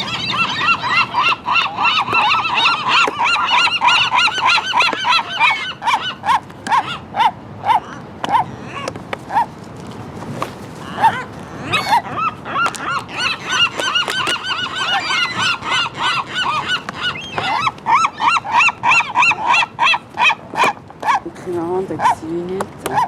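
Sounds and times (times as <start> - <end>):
seagulls calling: 0.0 - 9.6, 10.4 - 23.0.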